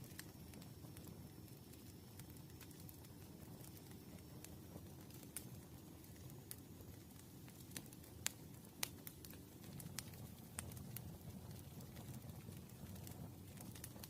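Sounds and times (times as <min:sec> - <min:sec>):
campfire rumble: 0:00.0 - 0:14.0
wood crackling and popping: 0:00.0 - 0:14.0.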